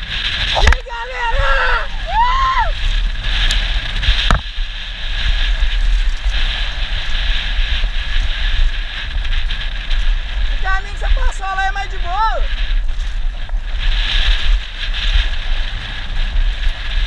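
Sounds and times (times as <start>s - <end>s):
mountain bike rumbling on dirt trail: 0.0s - 17.0s
wind on microphone: 0.0s - 17.0s.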